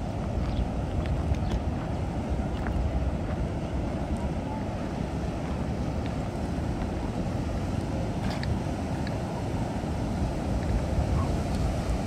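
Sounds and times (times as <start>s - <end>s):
water rushing over weir: 0.0s - 12.0s
wind buffeting microphone: 0.0s - 12.0s.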